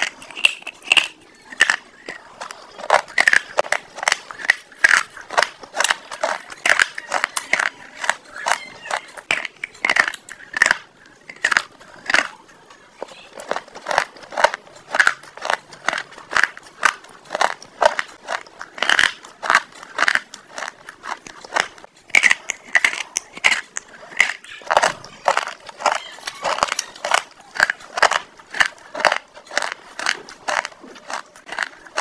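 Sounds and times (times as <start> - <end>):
crunchy food chewing: 0.0 - 32.0.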